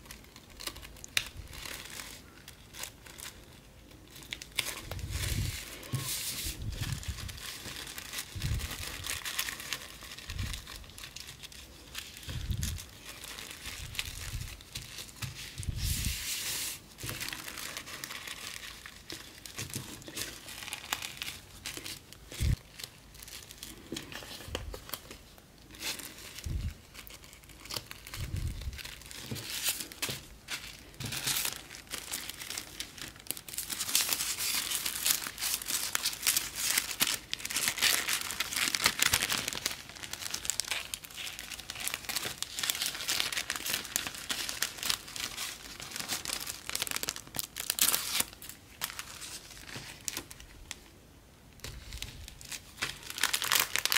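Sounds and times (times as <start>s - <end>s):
tissue paper crinkling: 0.0s - 50.8s, 51.6s - 53.9s.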